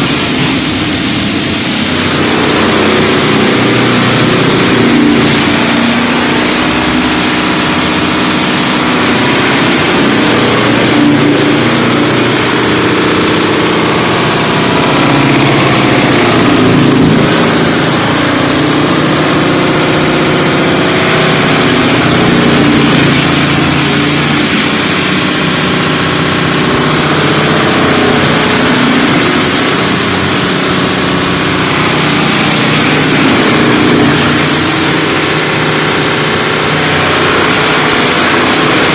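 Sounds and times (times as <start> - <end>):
wood chipper crushing lumber: 0.0 - 38.9.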